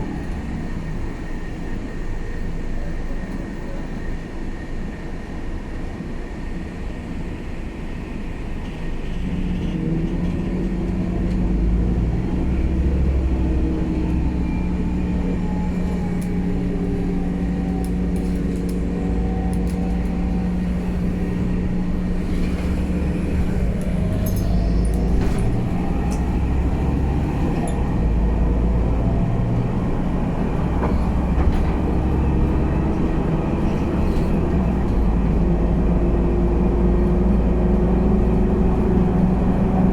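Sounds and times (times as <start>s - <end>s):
bus engine pulling: 0.0s - 39.9s.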